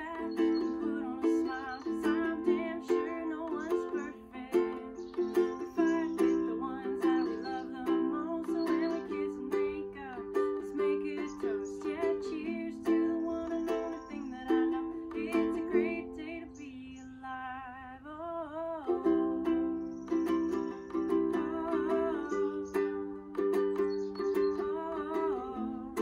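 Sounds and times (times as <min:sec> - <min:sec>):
ukulele strumming chords: 0:00.0 - 0:16.9, 0:18.6 - 0:26.0.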